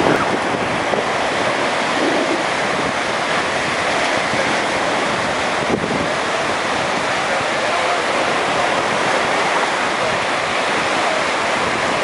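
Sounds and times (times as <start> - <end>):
sea surf: 0.0 - 12.0
wind noise on microphone: 0.0 - 12.0.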